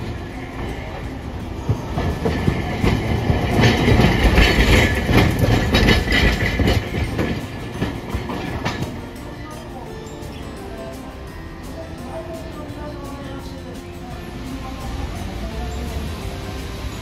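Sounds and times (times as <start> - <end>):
tram rumbling past: 0.0 - 17.0
wheels clicking over rail joints: 0.0 - 17.0.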